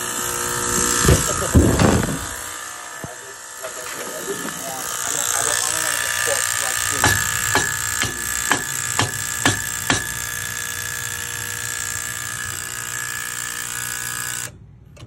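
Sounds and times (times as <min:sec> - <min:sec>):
gas valve buzzing loudly: 0:00.0 - 0:15.0.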